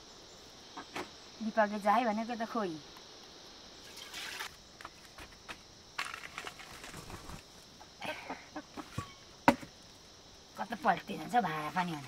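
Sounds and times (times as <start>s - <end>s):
high insect hum: 0.0s - 12.0s.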